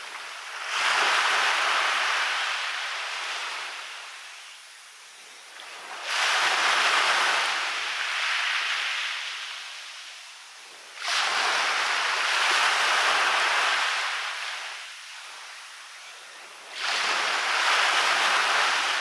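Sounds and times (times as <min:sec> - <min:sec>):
waves crashing on beach: 0:00.0 - 0:19.0.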